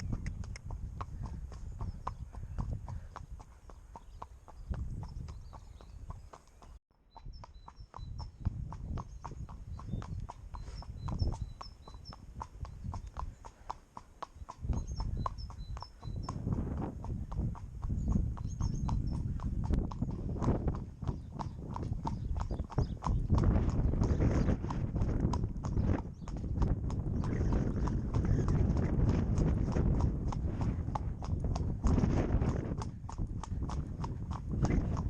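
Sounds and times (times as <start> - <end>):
pony hooves clip-clopping: 0.0 - 35.0
wind buffeting microphone: 0.0 - 35.0.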